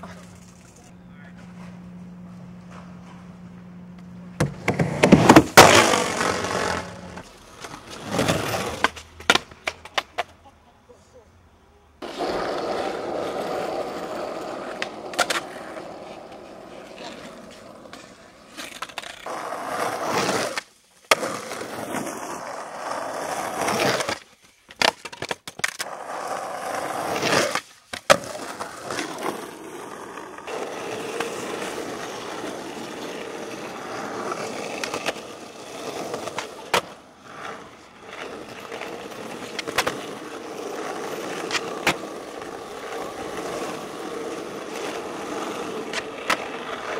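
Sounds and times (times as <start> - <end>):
skateboard wheels rolling on asphalt: 0.0 - 10.6, 11.8 - 46.9
skateboard clacks: 4.0 - 10.4, 12.0 - 21.8, 22.4 - 46.9.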